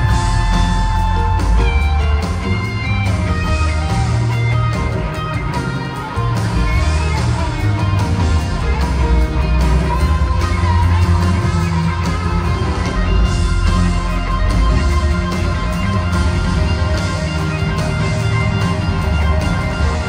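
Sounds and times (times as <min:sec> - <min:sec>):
bass: 0:00.0 - 0:20.0
drums: 0:00.0 - 0:20.0
electric guitar: 0:00.0 - 0:20.0
keyboards: 0:00.0 - 0:20.0.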